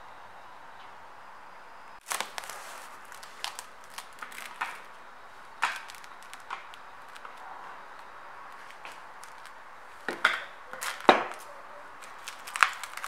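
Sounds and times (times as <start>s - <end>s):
cling wrap crinkling: 2.0s - 13.0s.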